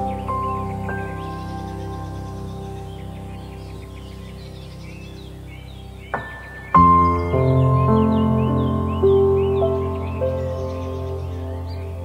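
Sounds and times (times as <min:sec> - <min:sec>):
birdsong chirping: 0:00.0 - 0:12.0
soft sustained background music: 0:00.0 - 0:12.0.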